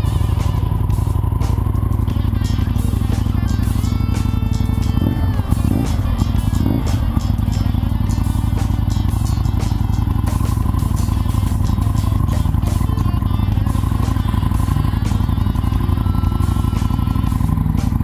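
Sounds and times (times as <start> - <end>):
background music: 0.0 - 18.0
motorcycle engine running: 0.0 - 18.0.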